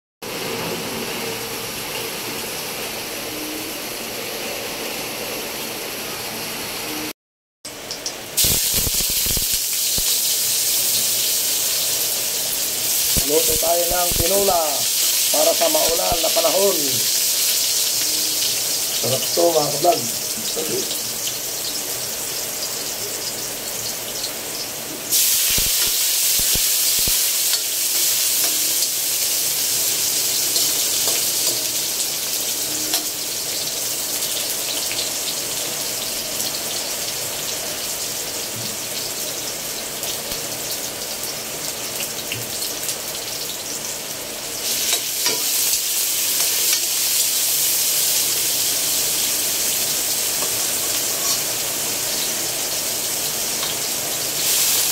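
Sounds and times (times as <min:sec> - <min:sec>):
food sizzling in hot oil: 0:07.7 - 0:54.9.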